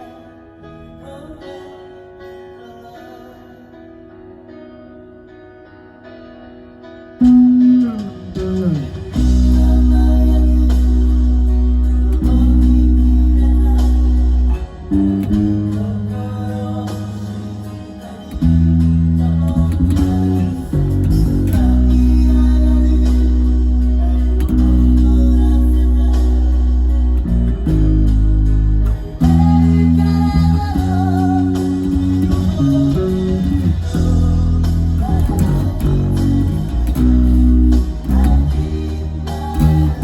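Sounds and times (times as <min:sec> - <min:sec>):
bass guitar low held notes: 0:07.2 - 0:40.0
full band music: 0:07.2 - 0:40.0.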